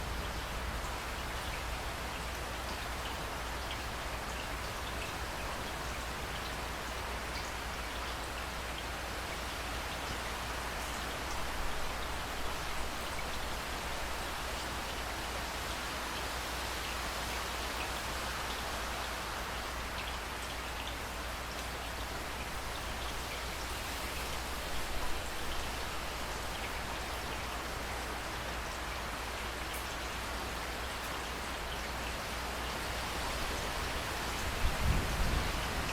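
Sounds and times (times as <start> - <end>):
raindrops pattering on a surface: 0.0 - 35.9
steady rain hiss: 0.0 - 35.9.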